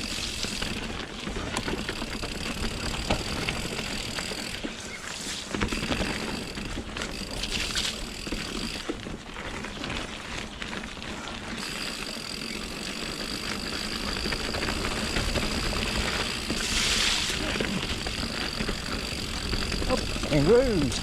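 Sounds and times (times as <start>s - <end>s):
bike clicks and knocks: 0.0s - 21.0s
bike tyres rattling over rocks: 0.0s - 21.0s.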